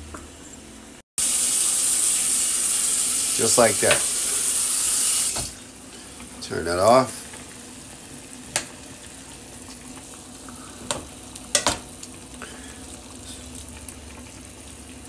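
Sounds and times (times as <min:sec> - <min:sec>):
food sizzling in a pan: 0:01.2 - 0:15.0.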